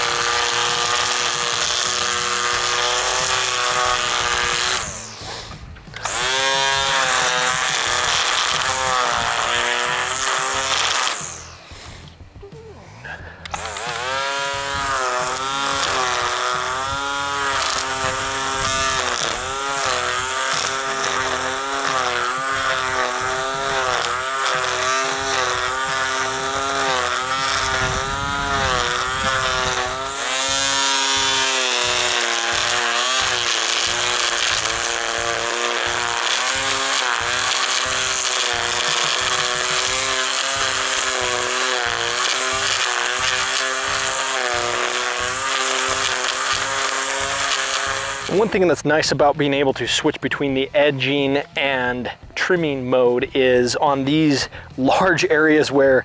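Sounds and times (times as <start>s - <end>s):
string trimmer cutting grass: 0.0s - 56.0s.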